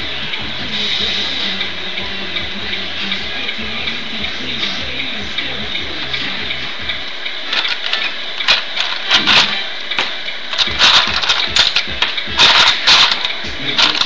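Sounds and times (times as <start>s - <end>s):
electric pump whine: 0.0s - 14.0s.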